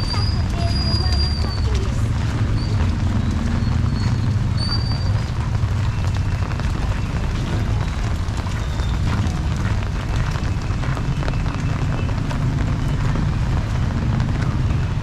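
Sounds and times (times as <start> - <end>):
wind rumbling on microphone: 0.0 - 15.0
heavy rain hissing: 0.2 - 15.0.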